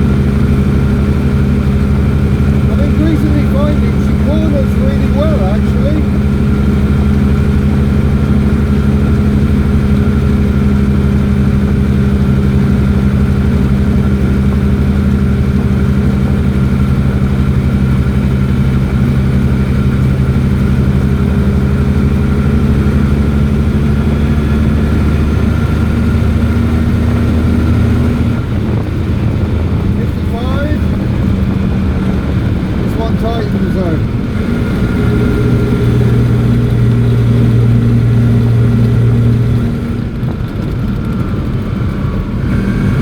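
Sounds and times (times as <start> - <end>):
small engine droning: 0.0 - 43.0.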